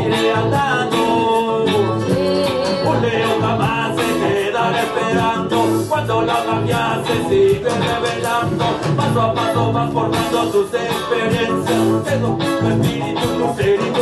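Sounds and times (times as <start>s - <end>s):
electric guitar: 0.0s - 14.0s
person singing: 0.0s - 14.0s
reggae band playing: 0.0s - 14.0s.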